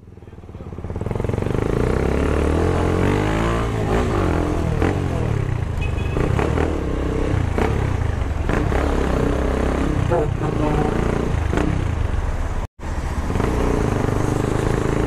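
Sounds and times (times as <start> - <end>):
motorcycle engine: 0.0 - 15.0.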